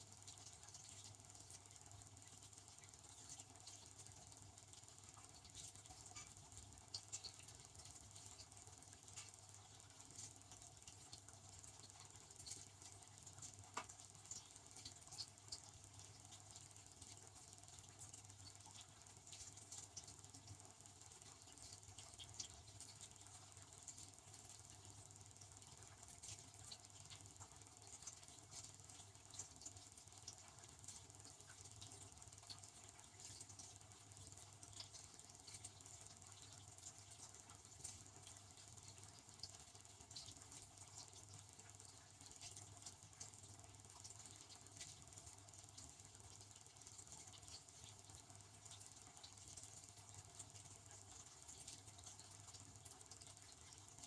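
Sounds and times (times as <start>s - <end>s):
light water patter: 0.0s - 54.0s
small ticks: 0.0s - 54.0s.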